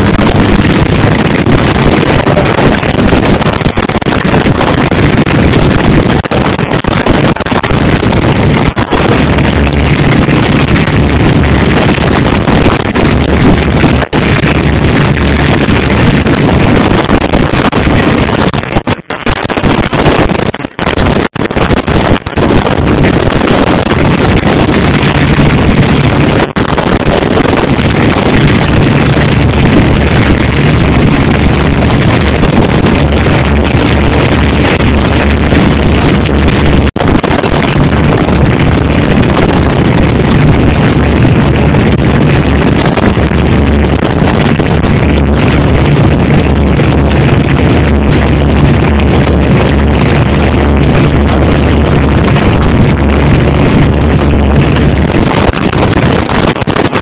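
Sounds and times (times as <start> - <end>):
boat engine roar: 0.0 - 57.0
wind buffeting microphone: 0.0 - 57.0.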